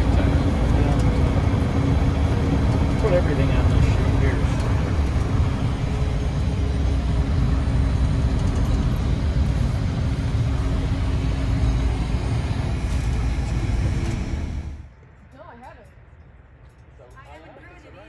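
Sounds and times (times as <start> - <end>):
jet cabin low rumble: 0.0 - 14.9
constant hum: 0.0 - 18.0.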